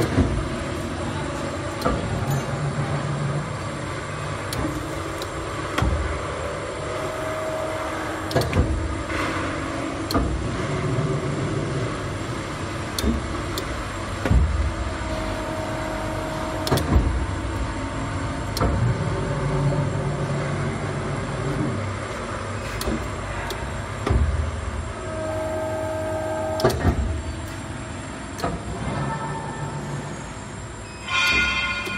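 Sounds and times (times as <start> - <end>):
machine whine: 0.0 - 31.9
workshop machinery hum: 0.0 - 31.9.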